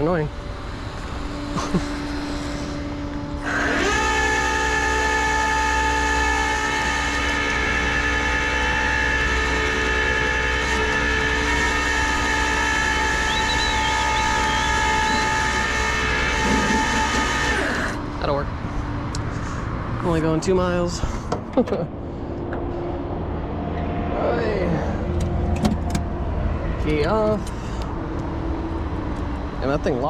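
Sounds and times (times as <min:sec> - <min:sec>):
winch motor whining: 0:00.0 - 0:30.0.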